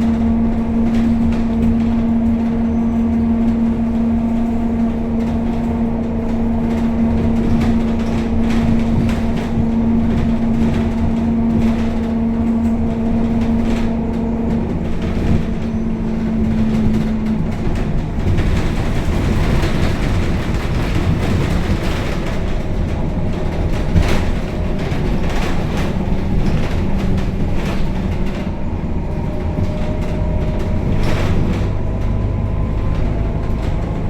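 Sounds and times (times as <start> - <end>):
bus body rattles: 0.0 - 34.0
bus diesel engine whine and rumble: 0.0 - 34.0.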